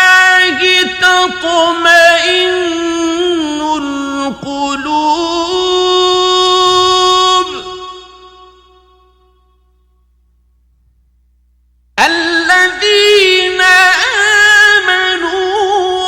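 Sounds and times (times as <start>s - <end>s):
man chanting melismatic recitation: 0.0s - 9.2s, 12.0s - 16.0s.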